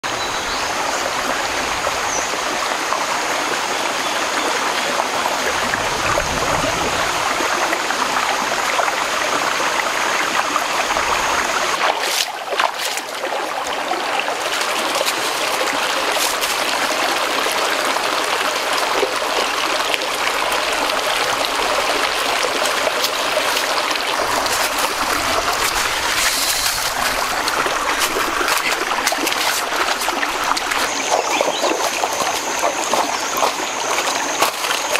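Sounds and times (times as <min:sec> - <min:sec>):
stream trickling over stones: 0:00.1 - 0:34.9.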